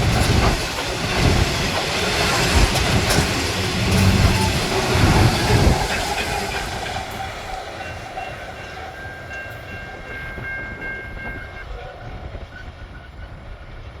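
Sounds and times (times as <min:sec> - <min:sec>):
train rumble and wheel clatter: 0:00.0 - 0:14.0.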